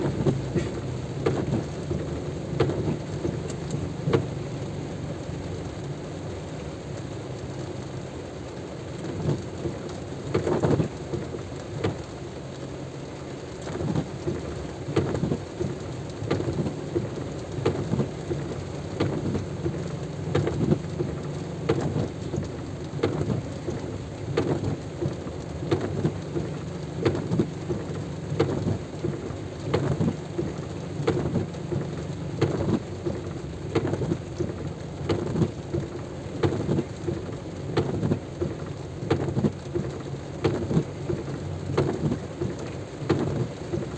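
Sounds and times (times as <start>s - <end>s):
heavy rain: 0.0s - 43.9s
low steady rumble: 0.0s - 43.9s
raindrops tapping on microphone: 0.0s - 43.9s.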